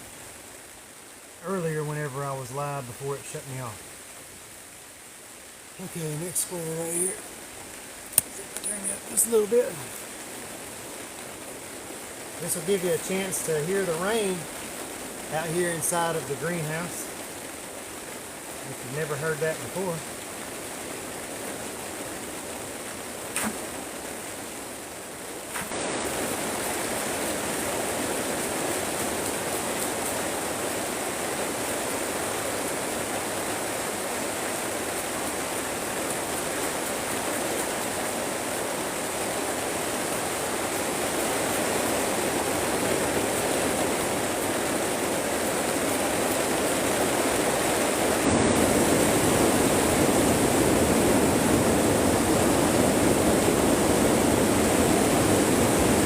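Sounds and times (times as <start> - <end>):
heavy rain on plastic covering: 0.0 - 56.0.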